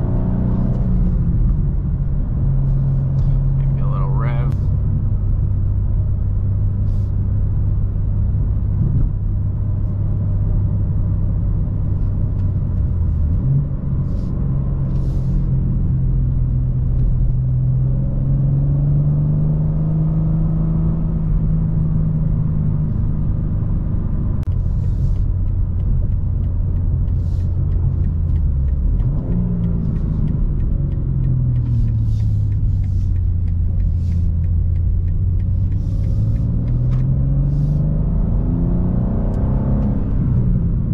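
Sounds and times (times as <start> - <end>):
car engine drone inside cabin: 0.0 - 40.9.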